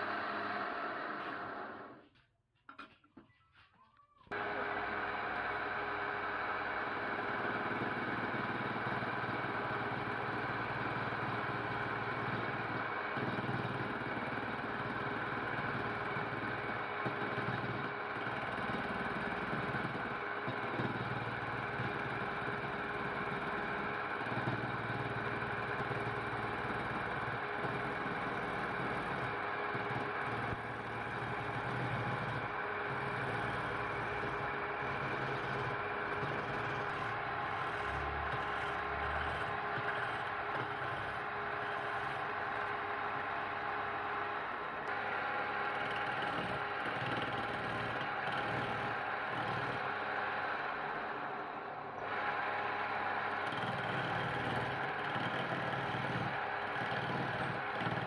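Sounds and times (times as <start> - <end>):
wood lathe running: 0.0 - 2.0, 4.3 - 58.0.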